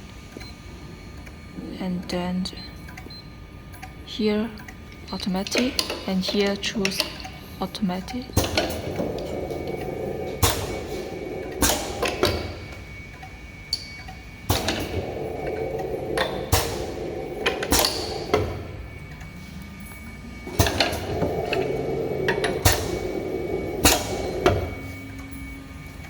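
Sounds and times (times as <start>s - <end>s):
machine hum: 0.0s - 26.0s
sharp mechanical clacks: 2.8s - 26.0s.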